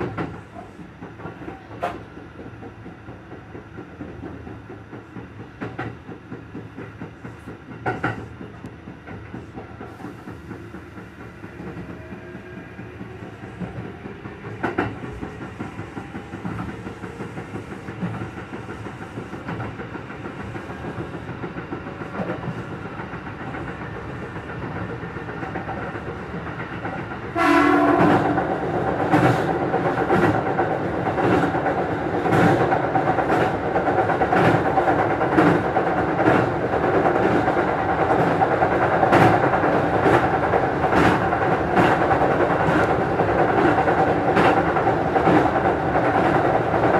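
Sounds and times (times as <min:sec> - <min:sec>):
train wheels clicking over rail joints: 0:00.0 - 0:46.9.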